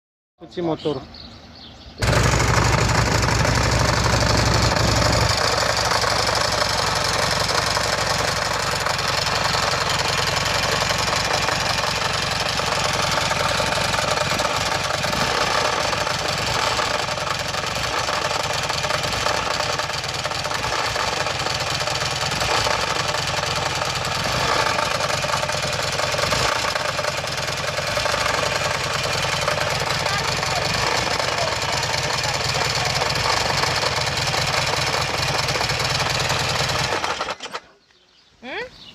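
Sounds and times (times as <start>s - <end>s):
engine knocking: 2.0s - 37.6s
motorcycle engine idling: 2.0s - 37.6s.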